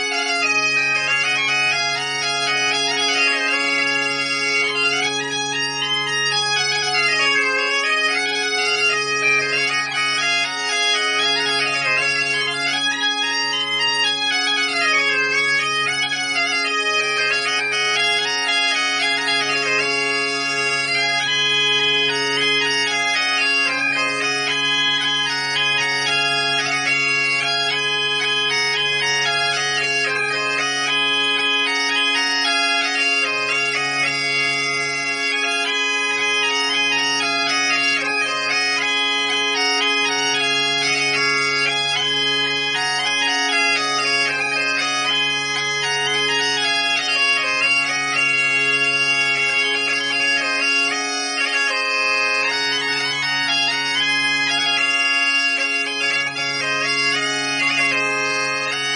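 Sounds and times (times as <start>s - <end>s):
bagpipes playing waltz: 0.0s - 58.9s.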